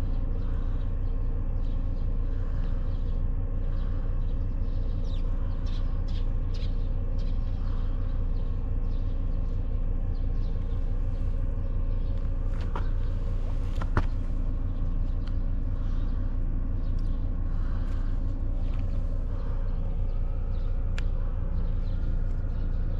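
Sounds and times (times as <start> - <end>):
engine running low rumble: 0.0 - 22.9.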